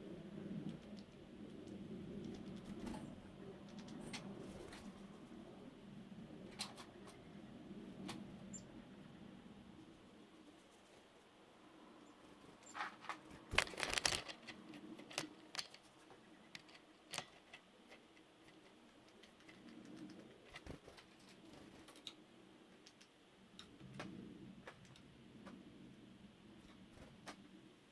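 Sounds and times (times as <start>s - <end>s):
faint low hum: 0.0s - 27.9s.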